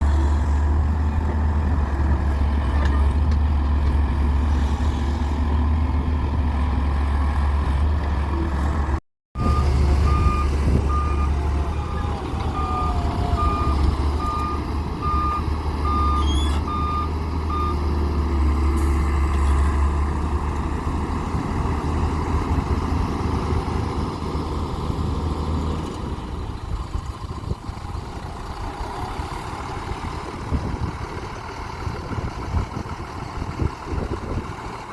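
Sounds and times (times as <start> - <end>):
diesel engine drone: 0.0 - 34.9.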